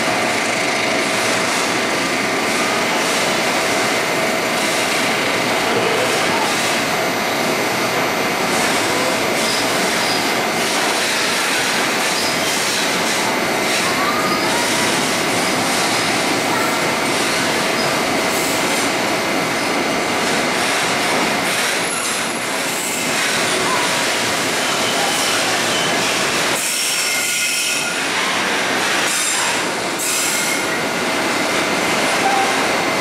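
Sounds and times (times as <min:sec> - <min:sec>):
freight train wheels rumbling on rail: 0:00.0 - 0:33.0.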